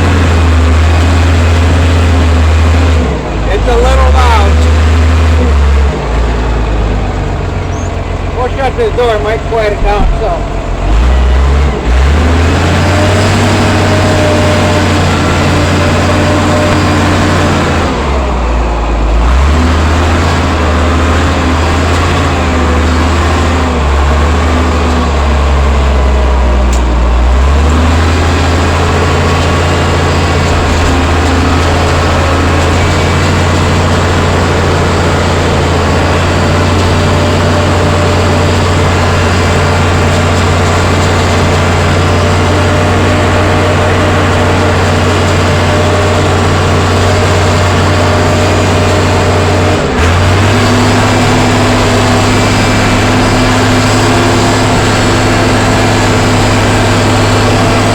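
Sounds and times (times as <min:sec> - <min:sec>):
wheel loader diesel engine: 0:00.0 - 0:57.9.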